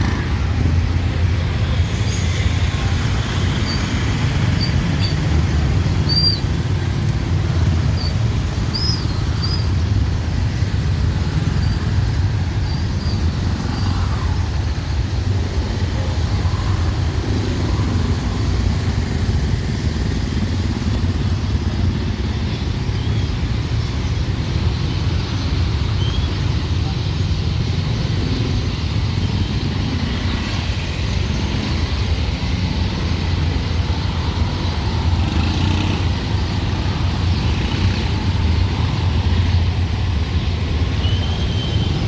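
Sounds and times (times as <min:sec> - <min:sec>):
engines and tyres rumbling: 0:00.0 - 0:42.0.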